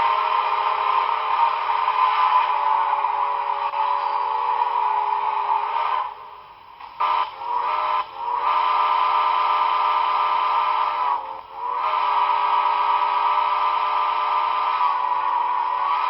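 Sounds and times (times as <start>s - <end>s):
chime steam whistle blasts: 0.0s - 16.0s.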